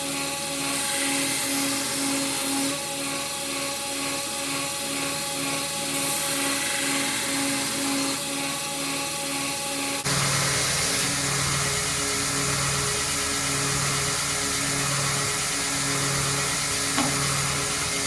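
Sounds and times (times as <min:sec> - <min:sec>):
belt grinder running: 0:00.0 - 0:18.0.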